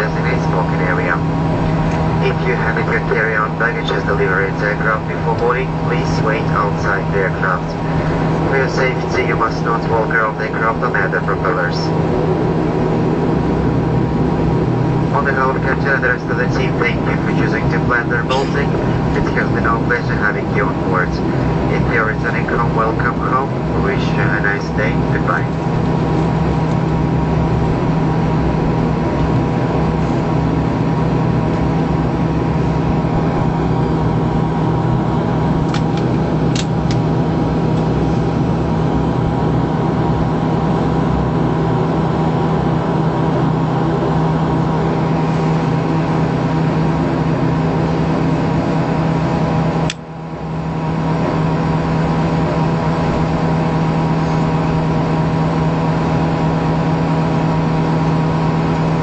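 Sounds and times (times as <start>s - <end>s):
turboprop engine drone in cabin: 0.0s - 59.0s.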